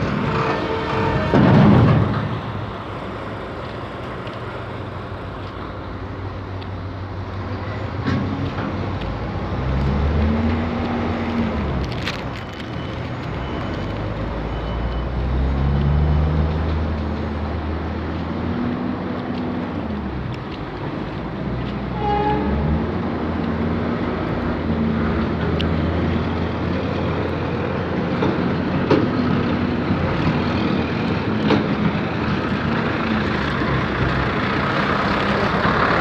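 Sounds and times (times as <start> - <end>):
heavy truck engines running: 0.0 - 36.0
traffic rumble: 0.0 - 36.0.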